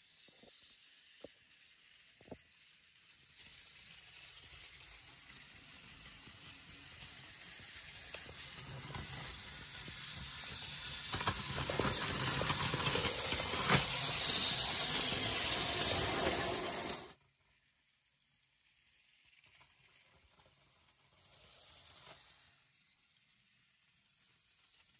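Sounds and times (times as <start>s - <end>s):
toy train whirring on track: 0.0s - 24.9s.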